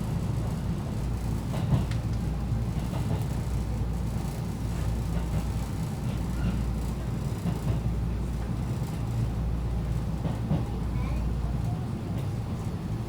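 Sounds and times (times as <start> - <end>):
train wheels and motors rumbling: 0.0 - 13.0.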